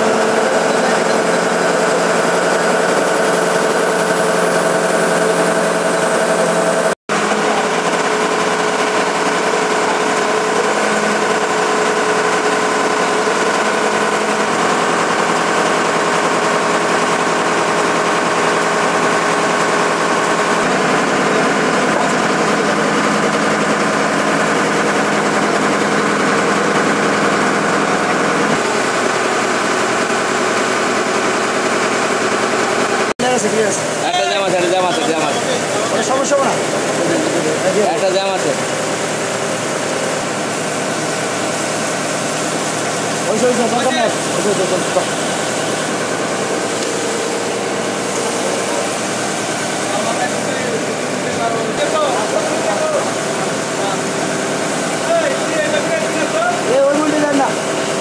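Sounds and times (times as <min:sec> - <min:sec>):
drilling rig engine running: 0:00.0 - 0:58.0.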